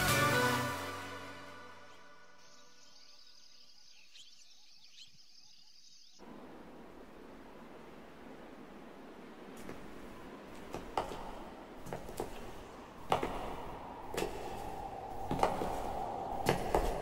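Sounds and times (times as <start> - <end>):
faint steady hum: 2.4 - 17.0.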